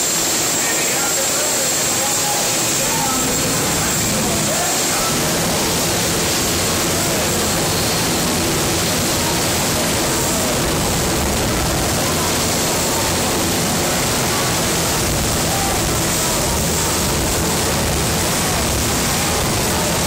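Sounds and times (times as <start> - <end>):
jet engine roaring with afterburner: 0.0 - 20.0.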